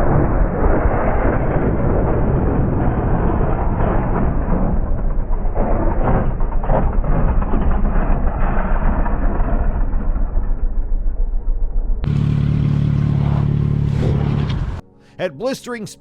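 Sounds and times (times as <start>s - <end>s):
motorcycle riding noise: 0.0s - 14.8s
steady low hum: 0.0s - 15.2s.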